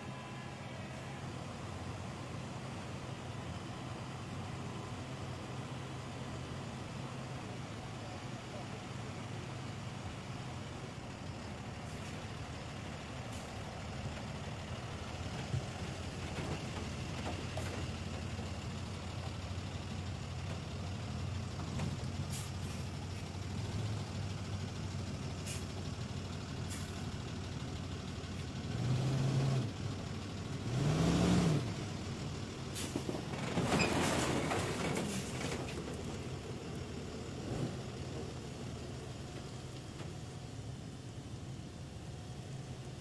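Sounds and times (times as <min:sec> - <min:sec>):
truck engine running and revving: 0:00.0 - 0:43.0.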